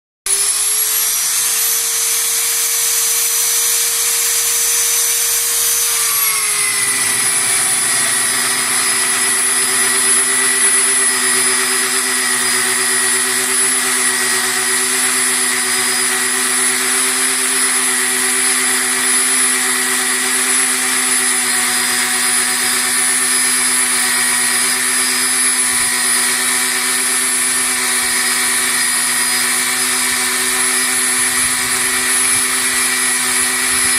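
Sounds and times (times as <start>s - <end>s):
drill cutter boring metal: 0.3s - 33.9s
drill motor whining: 0.3s - 33.9s.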